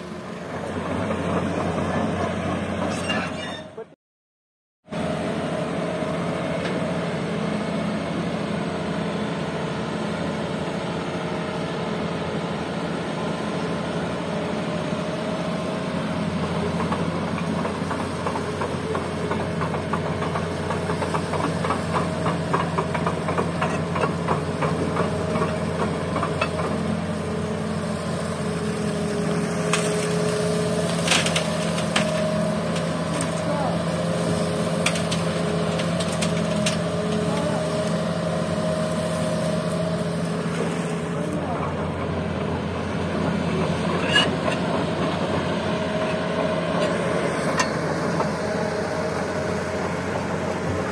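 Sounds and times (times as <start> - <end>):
diesel engines running: 0.0 - 4.0, 4.9 - 50.9.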